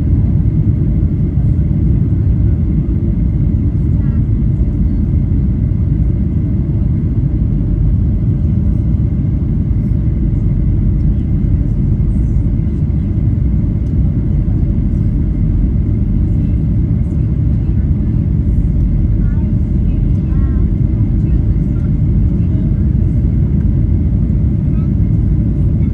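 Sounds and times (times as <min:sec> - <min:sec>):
aircraft engines and airflow rumble: 0:00.0 - 0:25.9.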